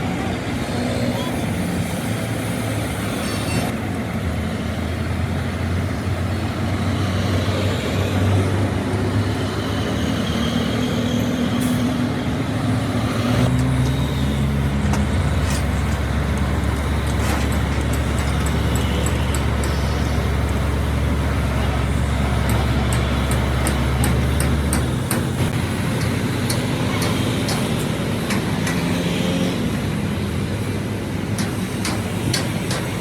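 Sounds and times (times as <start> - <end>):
road noise: 0.0 - 33.0
truck engine running: 0.0 - 33.0.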